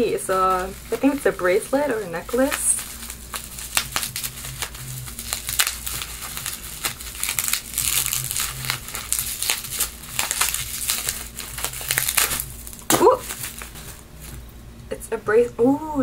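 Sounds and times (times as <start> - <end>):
gift wrapping crinkling: 0.0 - 14.6.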